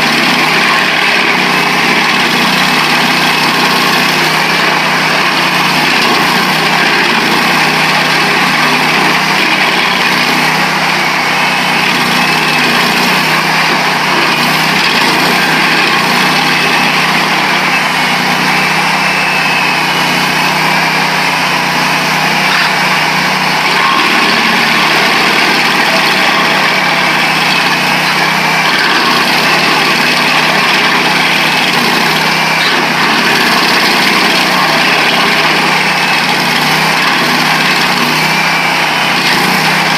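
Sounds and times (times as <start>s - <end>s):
cutter wheel grinding stump: 0.0s - 39.9s
stump grinder engine running: 0.0s - 39.9s.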